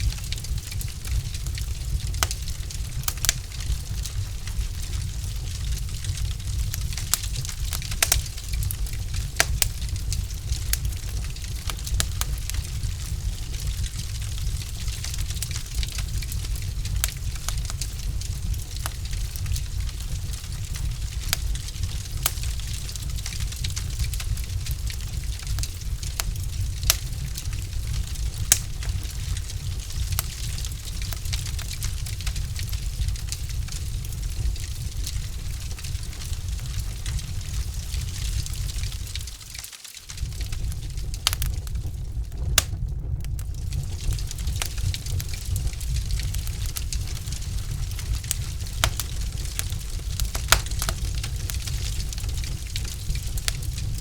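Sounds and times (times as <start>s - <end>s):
burning logs popping: 0.0s - 54.0s
flames rumbling: 0.0s - 54.0s
wood fire crackling: 0.0s - 54.0s.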